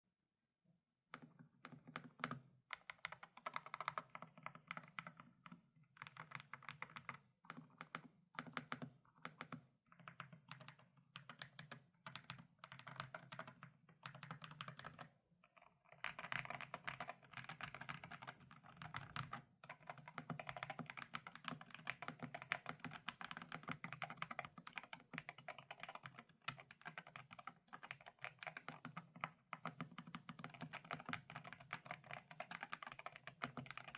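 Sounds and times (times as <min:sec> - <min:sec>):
mechanical keyboard typing: 0:01.6 - 0:33.9.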